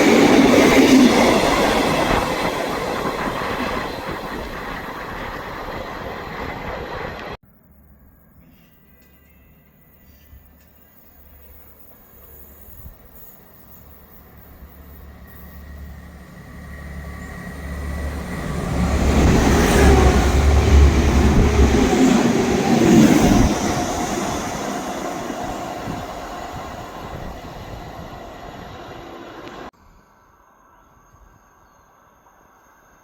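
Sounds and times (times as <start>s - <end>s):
diesel train passing: 0.0s - 7.4s, 9.0s - 29.7s.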